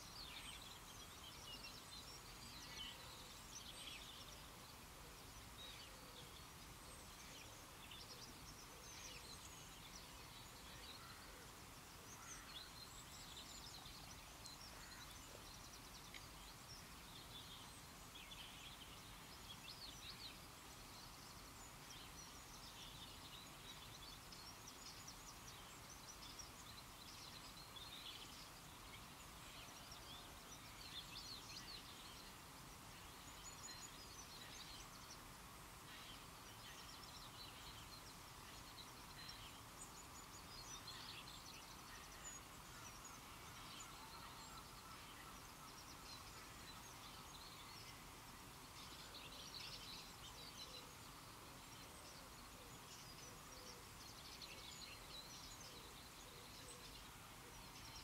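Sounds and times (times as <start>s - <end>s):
small birds chirping: 0.0s - 58.0s
steady low hiss: 0.0s - 58.0s.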